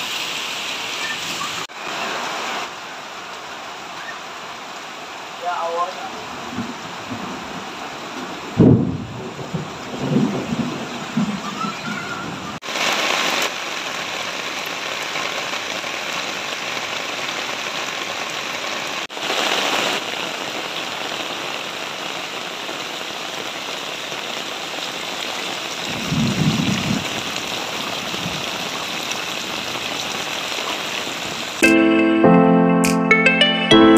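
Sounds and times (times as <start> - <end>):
heavy rain pouring: 0.0 - 32.2.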